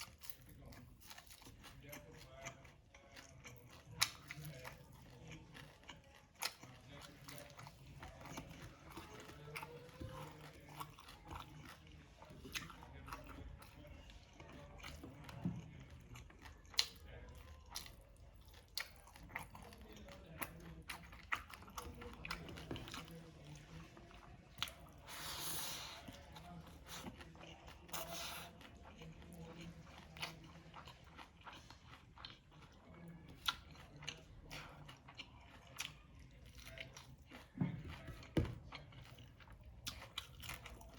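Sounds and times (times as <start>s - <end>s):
person chewing crispy food: 0.0s - 40.9s.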